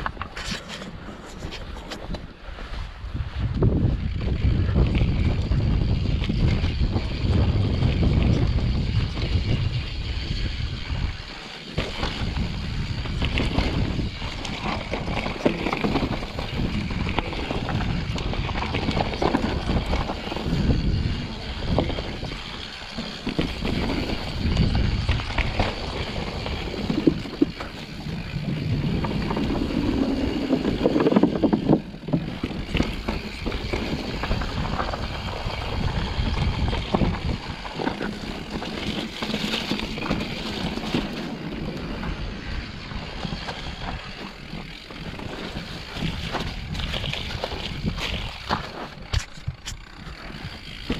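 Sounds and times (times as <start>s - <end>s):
wind buffeting microphone: 0.0s - 50.9s
bike knocks and rattles: 3.5s - 50.9s
tyres rolling over dirt and rock: 3.6s - 50.9s.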